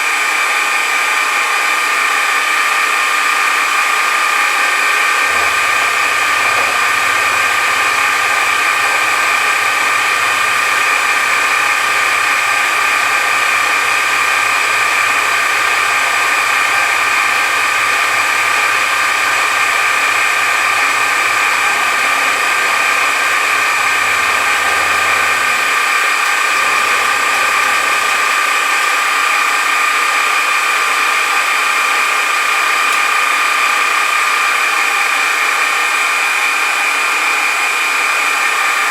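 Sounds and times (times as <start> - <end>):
machine tool motor with high whine: 0.0 - 38.9.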